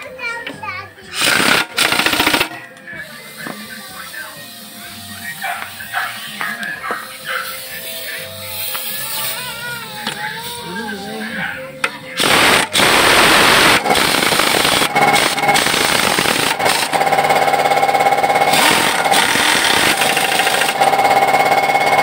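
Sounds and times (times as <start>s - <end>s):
angle grinder grinding metal: 3.4s - 22.0s.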